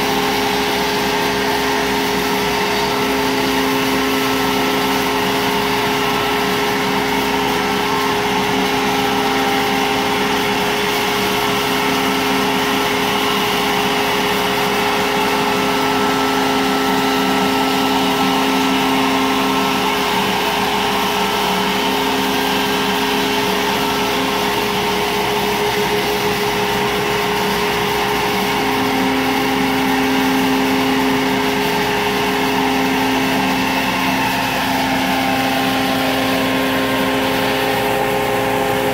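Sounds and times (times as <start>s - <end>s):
cnc router spindle whine: 0.0s - 38.9s
dust extraction noise: 0.0s - 38.9s.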